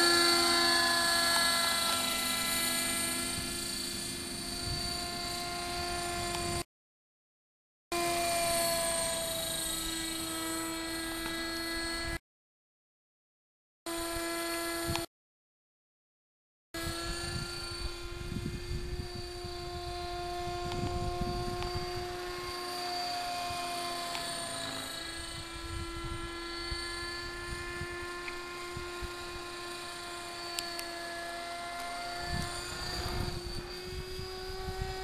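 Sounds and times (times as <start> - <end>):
model helicopter whine: 0.0 - 6.7, 8.0 - 12.2, 13.9 - 15.1, 16.8 - 35.0.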